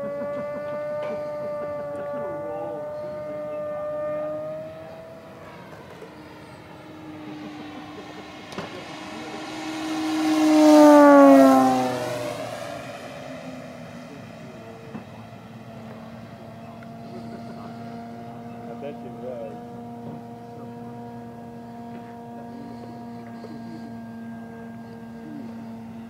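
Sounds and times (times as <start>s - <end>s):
model plane propeller drone: 0.0s - 26.0s.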